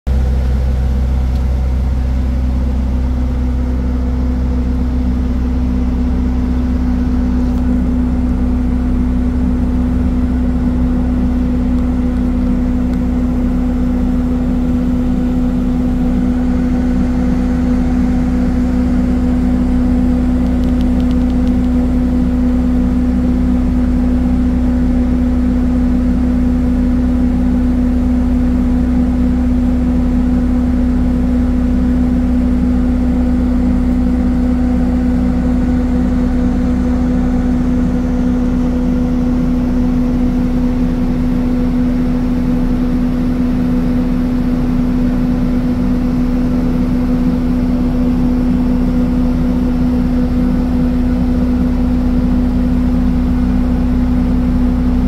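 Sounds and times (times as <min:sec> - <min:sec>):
ship engine machinery drone: 0:00.1 - 0:55.0.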